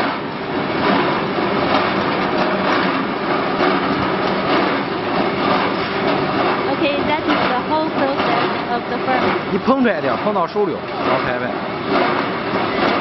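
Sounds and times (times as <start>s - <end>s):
faint regular clatter: 0.0s - 13.0s.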